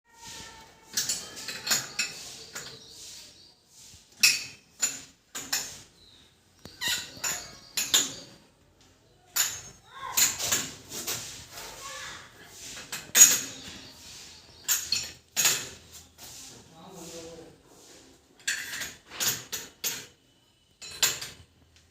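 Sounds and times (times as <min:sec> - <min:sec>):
metallic clinks and scrapes: 0:00.1 - 0:08.5, 0:09.3 - 0:17.4, 0:18.3 - 0:21.6.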